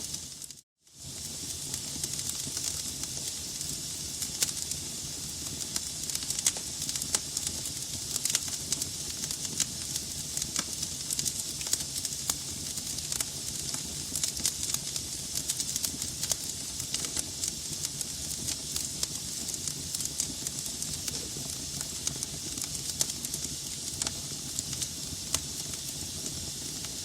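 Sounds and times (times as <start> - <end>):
logs burning in fireplace: 0.0 - 27.0.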